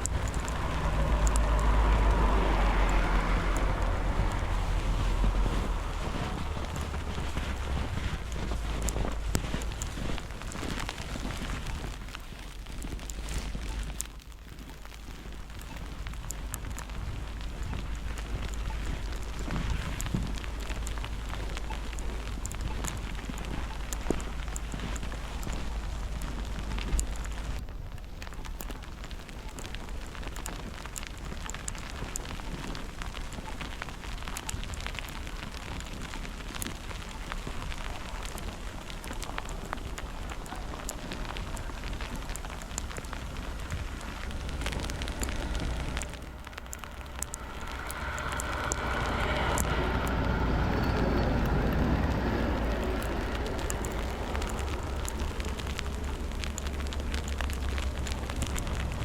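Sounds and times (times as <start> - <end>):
crackling snow patter: 0.0 - 59.0
low wind rumble: 0.0 - 59.0
vehicle passing on slushy street: 0.0 - 59.0.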